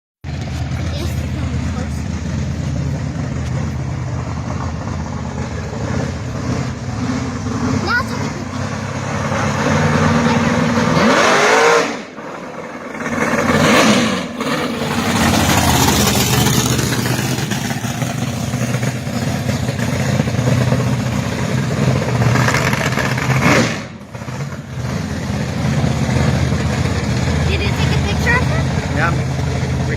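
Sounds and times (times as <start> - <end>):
car engine revving: 0.2 - 29.9.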